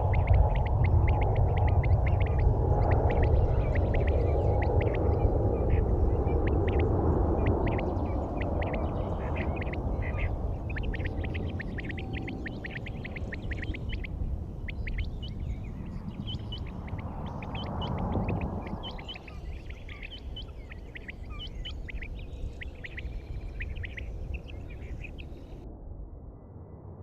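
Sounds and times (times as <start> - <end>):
small birds chirping: 0.0 - 25.6
steady low rumble: 0.0 - 27.0.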